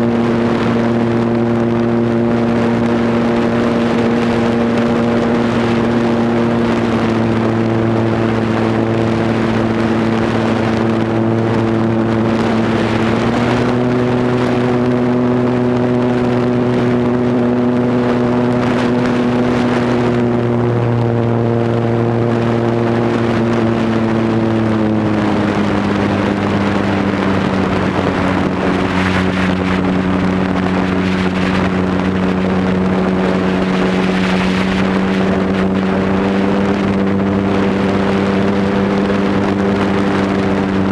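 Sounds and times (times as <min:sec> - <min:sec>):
airplane engine and propeller: 0:00.0 - 0:40.9
wind rushing over microphone: 0:00.0 - 0:40.9.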